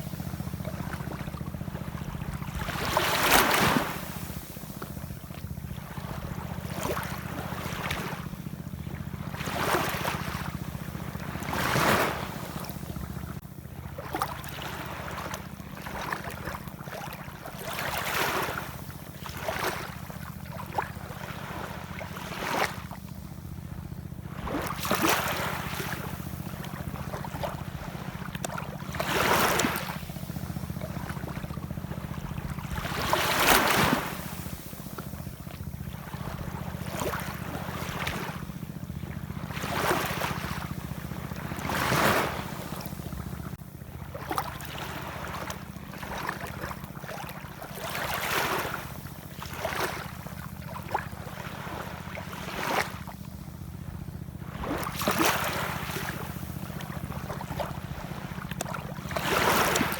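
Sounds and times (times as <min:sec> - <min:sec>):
low rumble of sea: 0:00.0 - 0:59.9
ocean waves breaking: 0:00.0 - 0:59.9.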